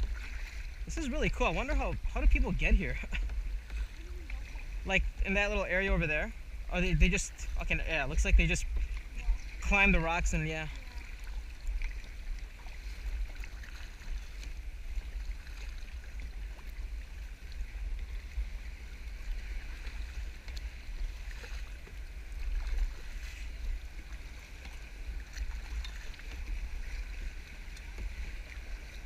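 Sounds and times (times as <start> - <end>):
steady low rumble: 0.0 - 29.0
water sloshing around kayak: 0.0 - 29.0.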